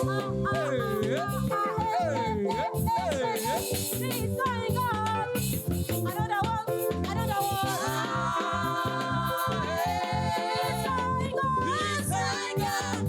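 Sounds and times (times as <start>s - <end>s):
person singing: 0.0s - 5.3s, 6.7s - 13.0s
gospel band with bass and drums: 0.0s - 13.0s.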